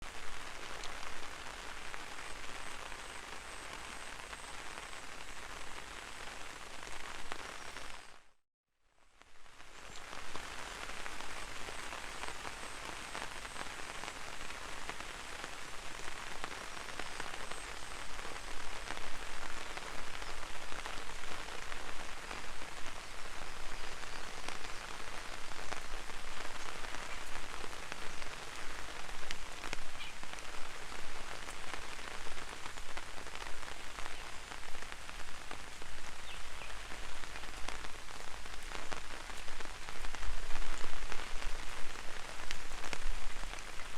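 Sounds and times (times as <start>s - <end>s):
rain on an umbrella: 0.0s - 8.4s, 9.0s - 43.9s.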